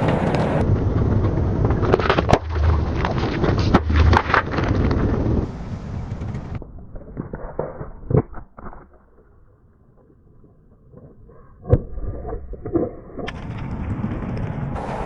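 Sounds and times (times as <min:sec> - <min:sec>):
objects crunching under car tyre: 0:00.0 - 0:14.8.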